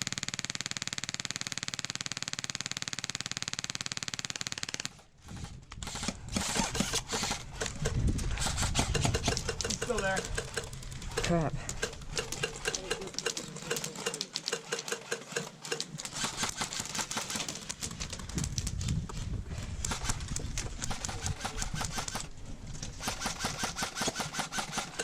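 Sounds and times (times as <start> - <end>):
airsoft gun firing bursts: 0.0 - 17.9, 19.8 - 22.3, 23.0 - 25.0.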